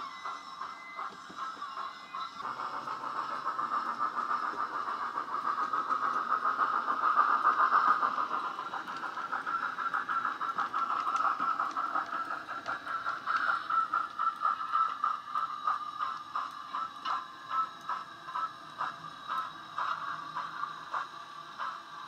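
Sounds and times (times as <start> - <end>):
steam engine sound from small speaker: 0.0 - 22.0.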